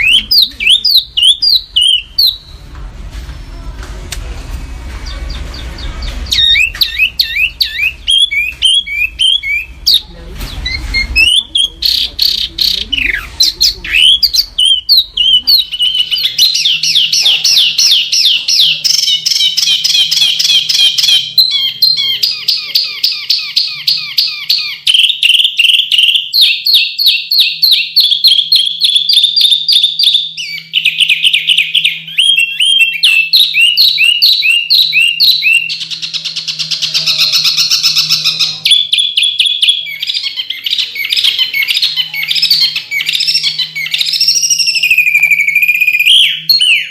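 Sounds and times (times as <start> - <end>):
songbird singing trills: 0.0 - 2.6, 5.0 - 46.9.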